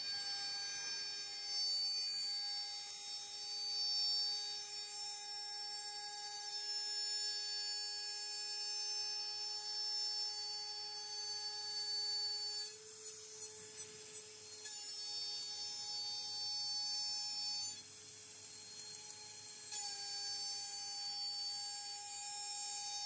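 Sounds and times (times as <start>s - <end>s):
router spindle high whine: 0.0s - 23.0s.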